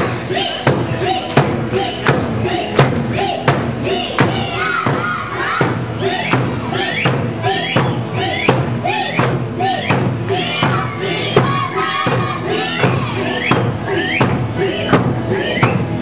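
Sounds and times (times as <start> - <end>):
folk music with singing voice: 0.0 - 16.0.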